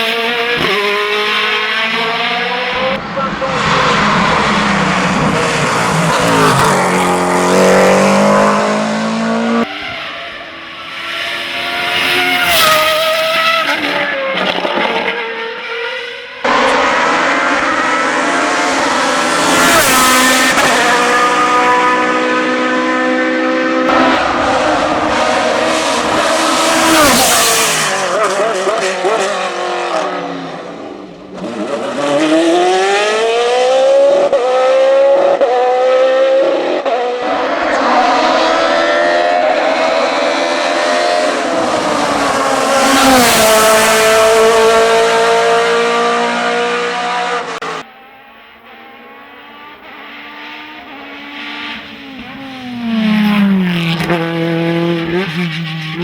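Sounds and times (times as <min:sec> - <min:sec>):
racing car engines at high revs: 0:00.0 - 0:56.0.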